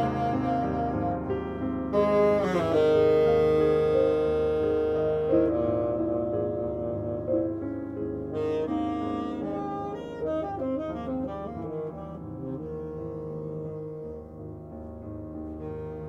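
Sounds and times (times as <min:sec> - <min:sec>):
piano chords: 0:00.0 - 0:16.0
saxophone melody: 0:00.0 - 0:16.0.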